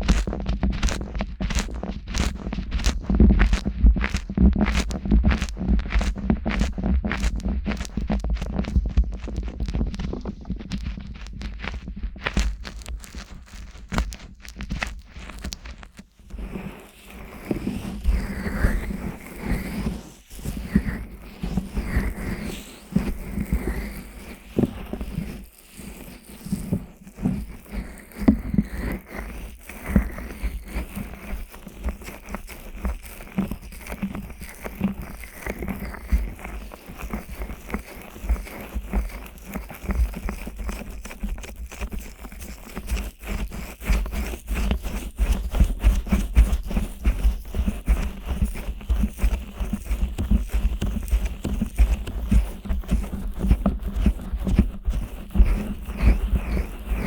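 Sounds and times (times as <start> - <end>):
fingers scratching microphone: 0.0 - 57.0.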